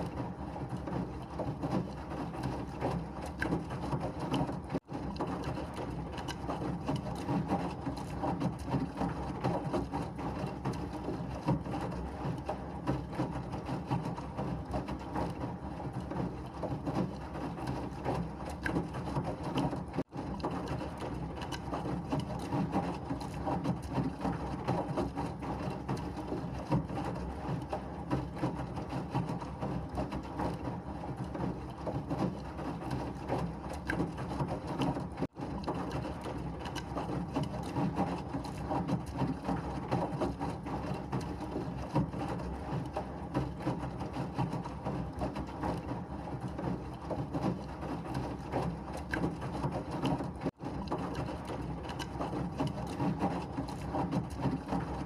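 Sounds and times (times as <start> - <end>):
washing machine churning: 0.0 - 55.0.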